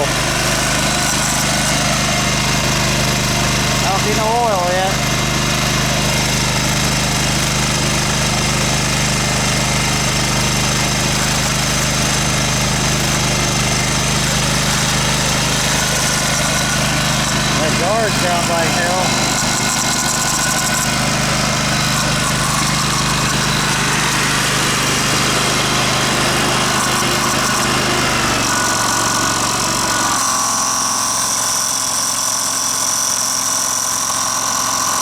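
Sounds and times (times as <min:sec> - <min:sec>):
mower engine running: 0:00.0 - 0:35.0.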